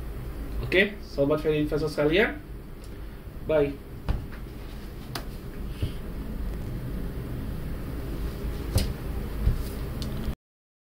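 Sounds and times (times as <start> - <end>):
low room hum: 0.0 - 10.4.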